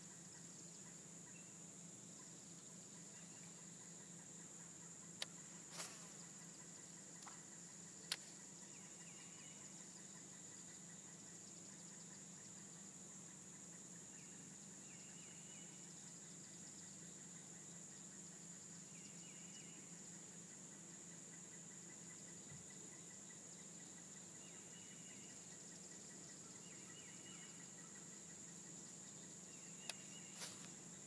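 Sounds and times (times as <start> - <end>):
faint chirps: 0.0 - 31.0.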